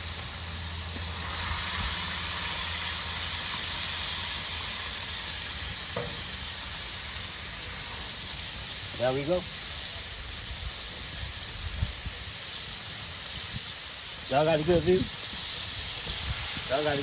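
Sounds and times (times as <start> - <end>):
burger patties sizzling: 0.0 - 17.0.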